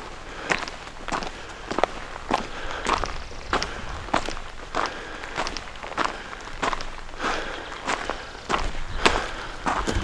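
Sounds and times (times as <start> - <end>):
footsteps crunching on trail: 0.0 - 10.0.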